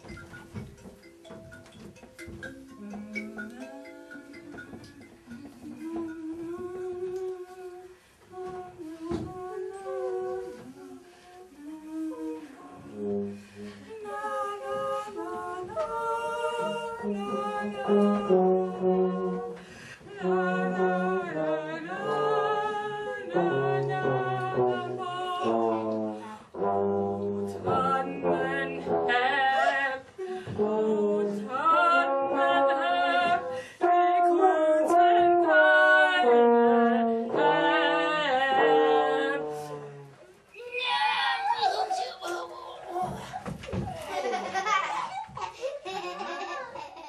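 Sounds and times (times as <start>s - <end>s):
person singing with vibrato: 2.2s - 43.5s.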